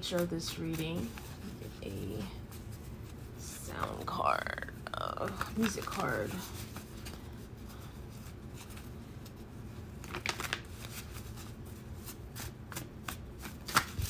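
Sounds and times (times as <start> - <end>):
cards shuffled by hand: 0.0 - 14.0.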